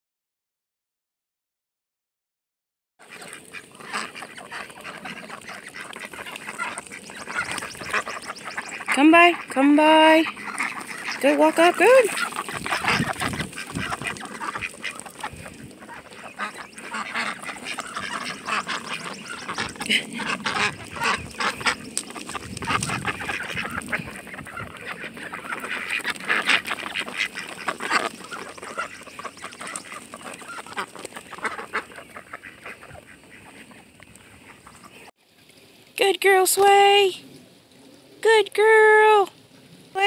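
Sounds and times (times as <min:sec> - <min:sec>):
ducks quacking: 0:03.0 - 0:35.1.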